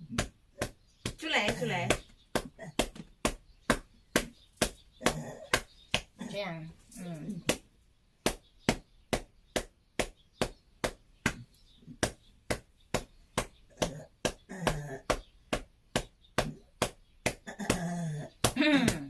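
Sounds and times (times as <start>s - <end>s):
hand patting on back: 0.0s - 6.2s, 7.4s - 19.0s.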